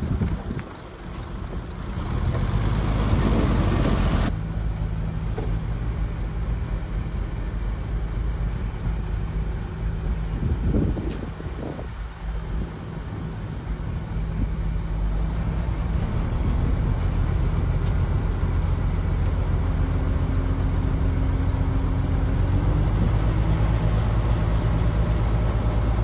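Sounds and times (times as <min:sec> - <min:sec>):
heavy diesel machinery rumbling: 0:00.0 - 0:26.0.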